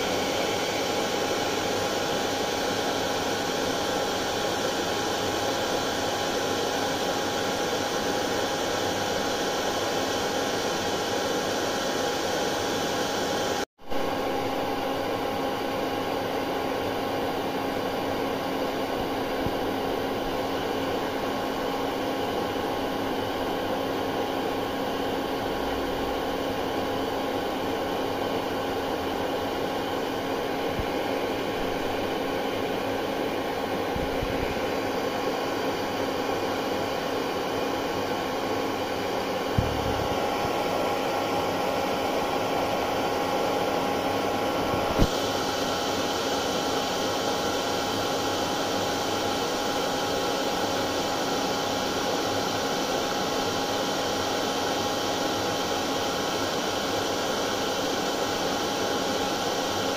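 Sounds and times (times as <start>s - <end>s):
hair dryer running: 0.0s - 13.7s, 14.8s - 59.9s.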